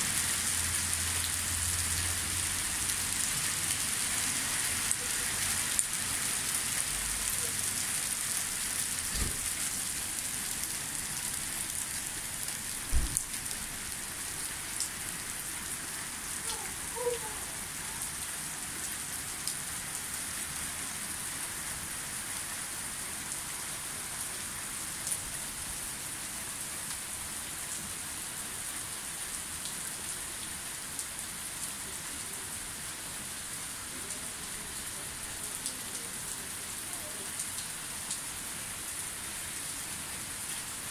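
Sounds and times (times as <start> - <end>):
hail and rain on paving: 0.0 - 40.9.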